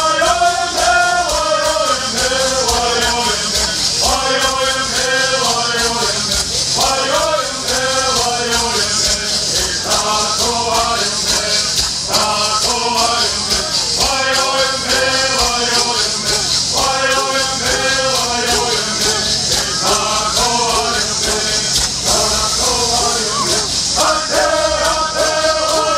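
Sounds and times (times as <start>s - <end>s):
gourd rattles shaking: 0.0s - 25.9s
group singing in unison: 0.0s - 25.9s.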